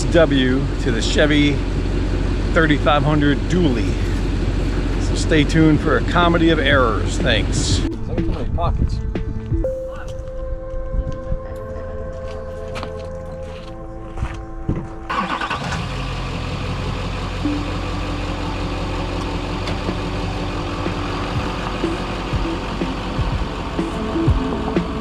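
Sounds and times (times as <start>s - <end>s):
diesel engine starting and running: 0.0s - 8.5s, 13.0s - 25.0s.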